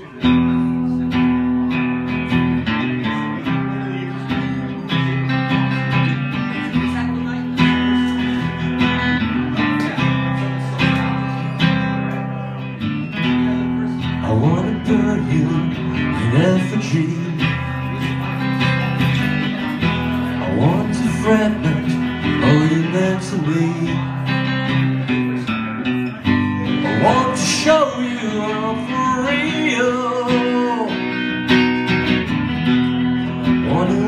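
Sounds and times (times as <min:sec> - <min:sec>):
acoustic guitar strumming chords: 0:00.0 - 0:34.0
guitar slides: 0:00.0 - 0:34.0.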